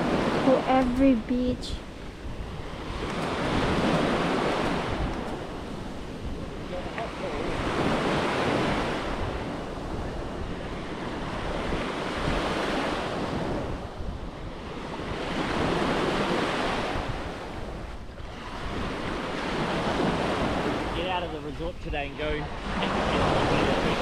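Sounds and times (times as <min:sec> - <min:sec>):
small waves breaking on sand: 0:00.0 - 0:24.0
wind buffeting microphone: 0:00.0 - 0:24.0.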